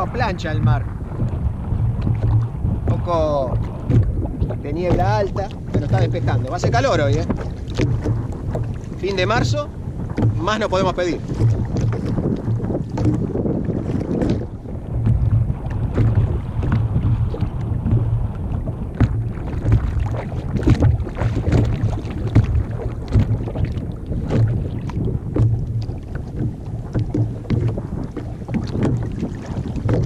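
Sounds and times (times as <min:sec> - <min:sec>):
water splashing and lapping: 0:00.0 - 0:30.0
wind buffeting microphone: 0:00.0 - 0:30.0.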